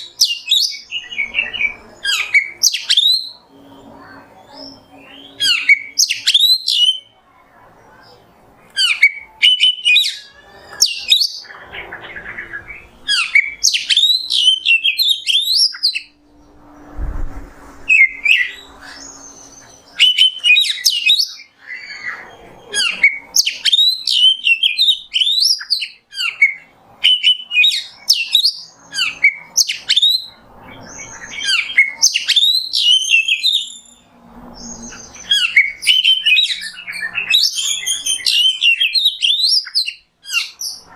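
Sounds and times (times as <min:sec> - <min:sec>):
bird singing whistled phrases: 0:00.0 - 0:07.2, 0:08.8 - 0:11.6, 0:12.5 - 0:16.2, 0:17.9 - 0:34.0, 0:34.6 - 0:40.9.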